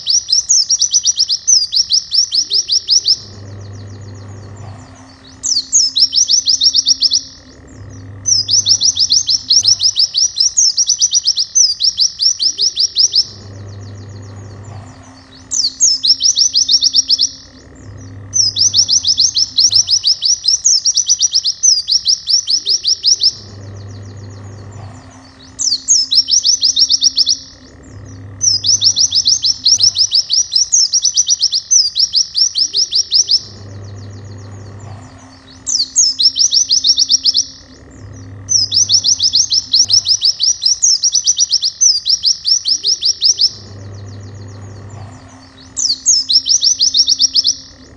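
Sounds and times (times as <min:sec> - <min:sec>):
bird rapid high trills: 0:00.0 - 0:47.9.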